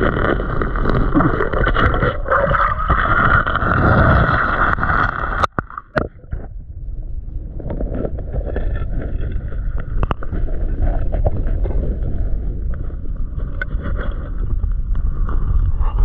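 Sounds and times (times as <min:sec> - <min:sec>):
muffled underwater water rushing: 0:00.0 - 0:16.0.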